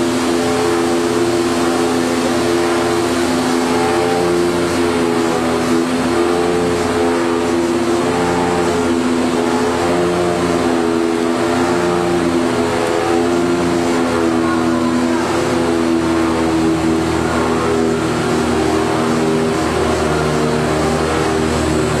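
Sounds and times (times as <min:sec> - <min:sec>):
low machine throb: 0:00.0 - 0:22.0
machinery humming: 0:00.0 - 0:22.0.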